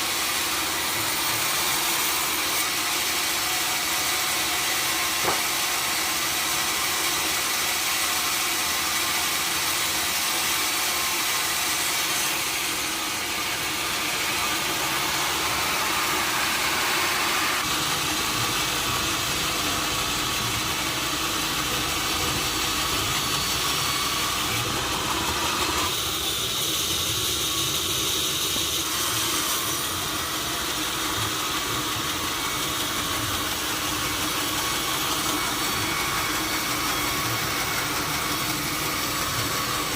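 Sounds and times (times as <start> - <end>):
motor drone: 0.0 - 39.9.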